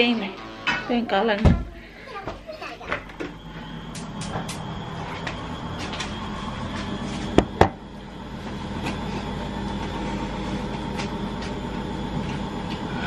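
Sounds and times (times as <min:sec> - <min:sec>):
steady hum with level tones: 0:00.0 - 0:13.0.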